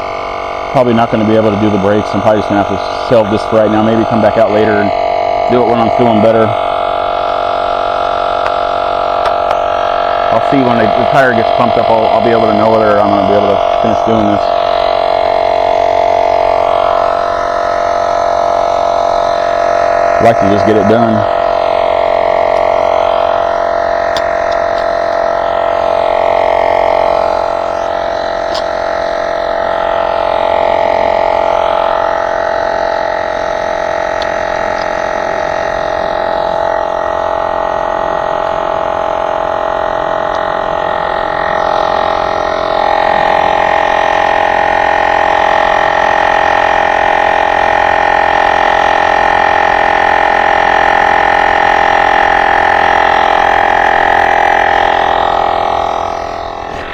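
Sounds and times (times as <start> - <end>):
tire inflator pump running: 0.0 - 56.9.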